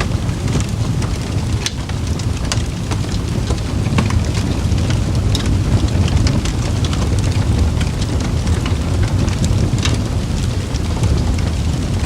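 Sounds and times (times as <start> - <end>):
crackles and pops of burning wood: 0.0 - 12.0
roar of flames: 0.0 - 12.0.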